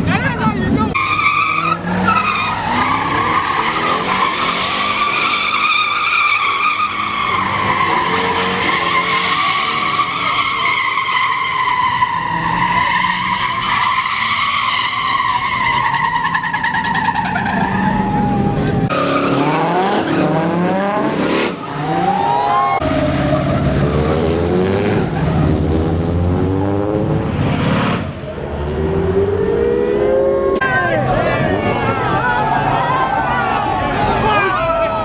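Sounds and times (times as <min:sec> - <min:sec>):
engine revving: 0:00.6 - 0:13.6, 0:17.5 - 0:32.9.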